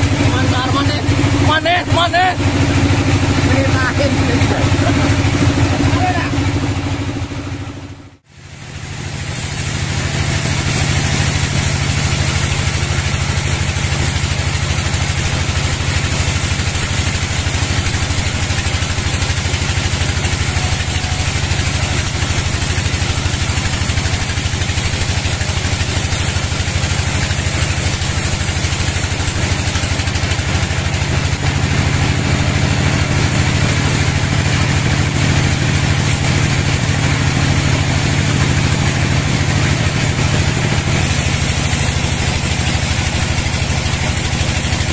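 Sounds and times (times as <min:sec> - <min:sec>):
band saw cutting log: 0:00.0 - 0:06.9, 0:08.5 - 0:44.9.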